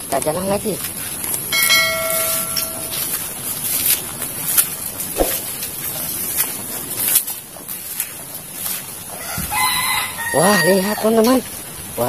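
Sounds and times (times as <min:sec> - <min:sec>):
leaves rustling: 0:00.0 - 0:12.0
footsteps through undergrowth: 0:00.2 - 0:12.0.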